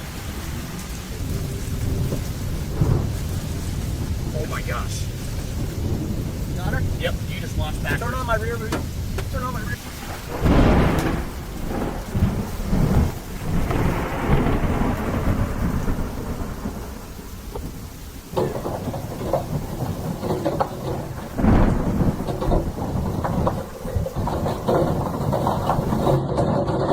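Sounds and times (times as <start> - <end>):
steady rain: 0.0 - 26.9
thunder rumbles: 0.0 - 26.9.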